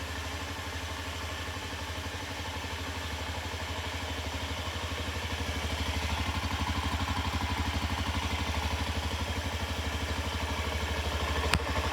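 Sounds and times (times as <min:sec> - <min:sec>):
scooter engine idling: 0:00.0 - 0:11.9.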